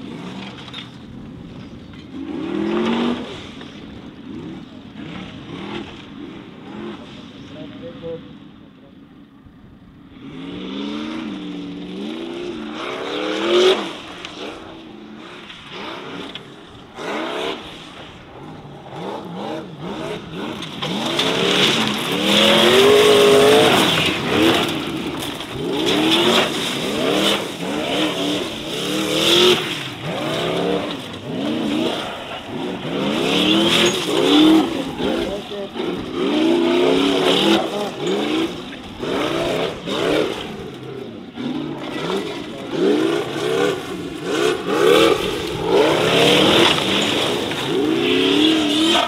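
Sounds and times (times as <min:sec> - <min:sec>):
tyres spinning in gravel: 0:00.0 - 0:07.7, 0:11.3 - 0:49.0
buggy engine revving: 0:00.0 - 0:49.0.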